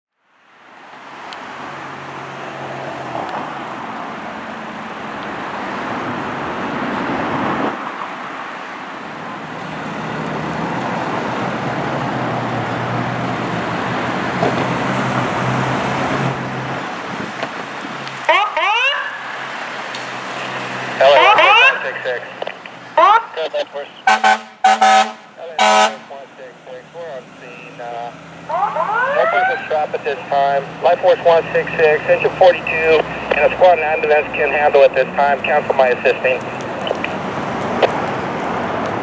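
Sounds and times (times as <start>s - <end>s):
road traffic: 0.2s - 39.0s
engine hum: 1.2s - 39.0s.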